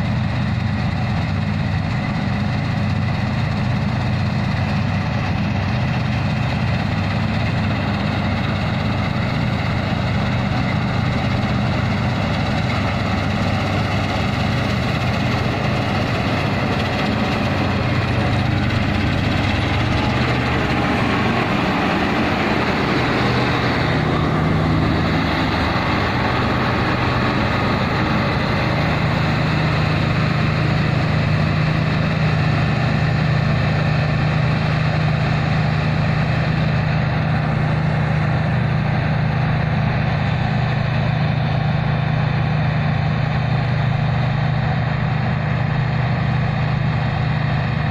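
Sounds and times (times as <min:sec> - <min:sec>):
combine harvester engine hum: 0:00.0 - 0:47.9.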